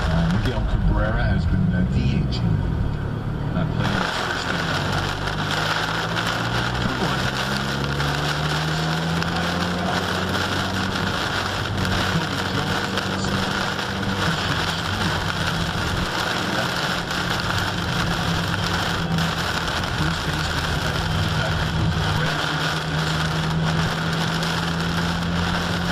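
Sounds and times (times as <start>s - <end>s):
low engine hum: 0.0s - 25.9s
rain hitting car: 0.0s - 25.9s
tyre and road noise: 0.0s - 25.9s.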